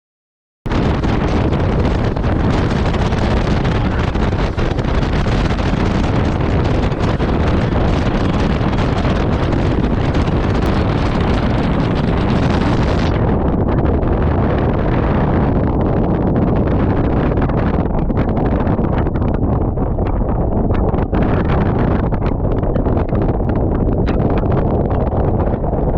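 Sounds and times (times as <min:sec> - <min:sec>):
storm wind buffeting microphone: 0:00.7 - 0:25.9.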